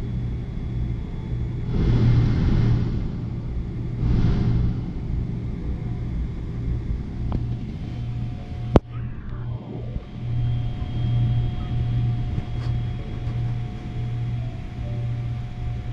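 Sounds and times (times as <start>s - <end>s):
faint steady whine: 0.0s - 15.9s
jet cabin rumble: 0.0s - 15.9s.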